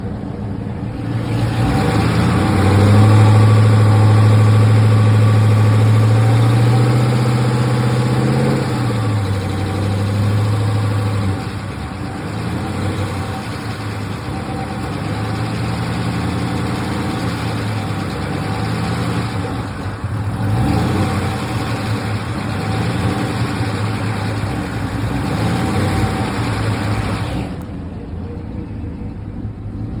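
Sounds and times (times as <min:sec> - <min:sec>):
engine revving and idling: 0:00.0 - 0:30.0.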